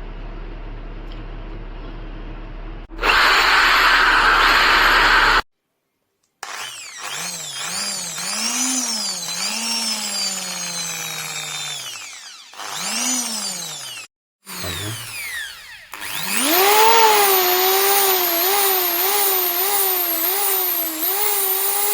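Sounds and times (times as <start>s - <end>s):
impact drill motor whine: 3.0s - 5.4s, 6.4s - 21.9s.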